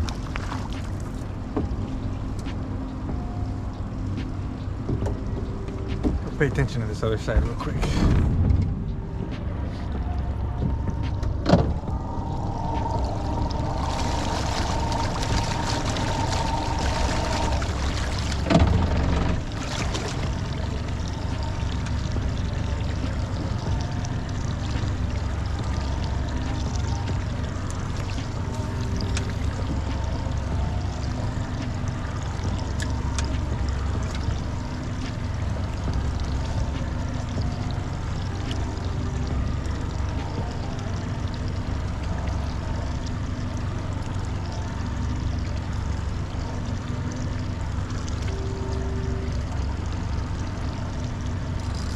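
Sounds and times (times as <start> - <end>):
boat engine rumble: 0.0 - 51.9
water moving around hull: 0.0 - 51.9.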